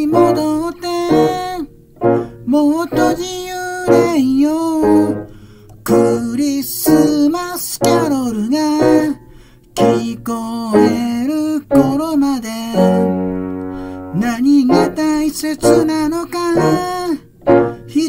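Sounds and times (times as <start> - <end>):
man singing pop ballad: 0.0 - 1.7, 2.4 - 13.2, 14.1 - 17.2
electronic keyboard piano chords: 0.0 - 18.0.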